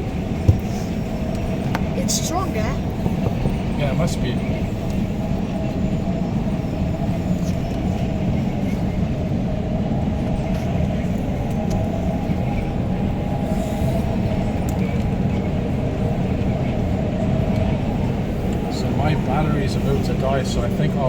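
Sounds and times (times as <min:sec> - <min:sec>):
train rumble: 0:00.0 - 0:21.0
wind rushing through doors: 0:00.0 - 0:21.0.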